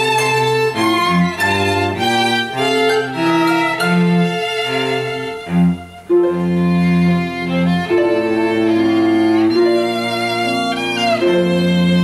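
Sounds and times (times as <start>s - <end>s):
string ensemble playing slow chords: 0.0s - 12.0s.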